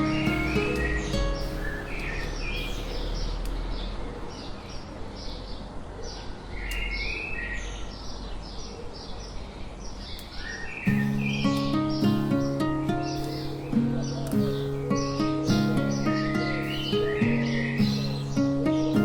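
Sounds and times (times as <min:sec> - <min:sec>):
birds chirping: 0:00.0 - 0:19.0
low background noise: 0:00.0 - 0:19.0.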